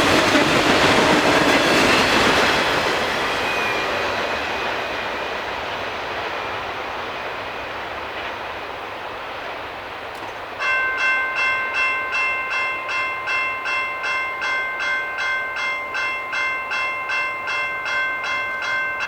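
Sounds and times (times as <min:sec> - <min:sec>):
railroad crossing bell ringing: 0:00.0 - 0:06.7, 0:10.2 - 0:19.0.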